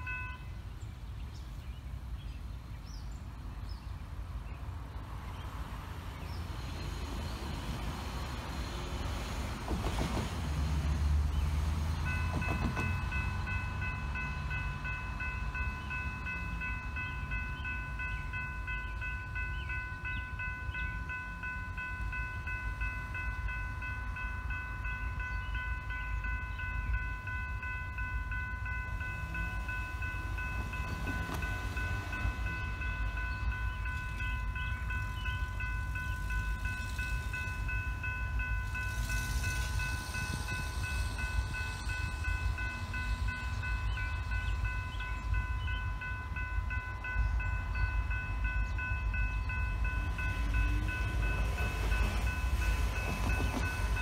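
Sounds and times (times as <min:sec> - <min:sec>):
railroad crossing bell ringing: 0:00.0 - 0:00.8, 0:05.8 - 0:54.0.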